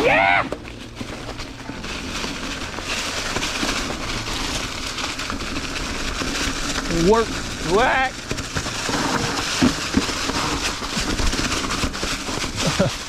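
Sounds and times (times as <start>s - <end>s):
bike rattling and clicking: 0.0s - 13.0s
bike tyres rolling on rocky trail: 0.0s - 13.0s.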